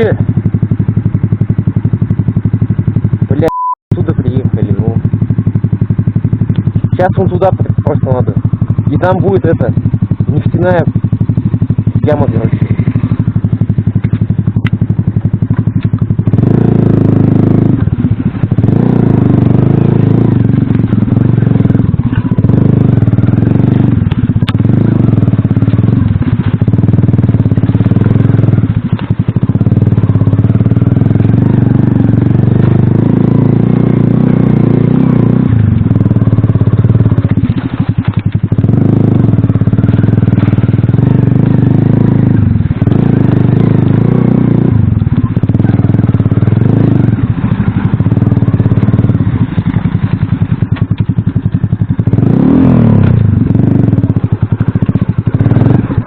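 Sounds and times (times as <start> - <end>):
moped engine revving: 0.0 - 56.0.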